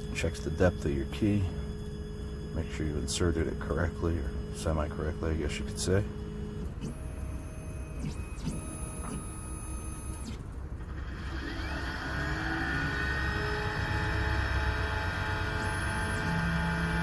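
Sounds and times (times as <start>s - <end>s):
cutter motor whine: 0.0s - 17.0s.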